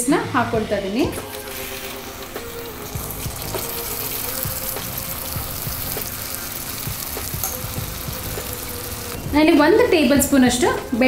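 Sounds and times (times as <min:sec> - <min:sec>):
oil sizzling in a frying pan: 0:01.1 - 0:11.0.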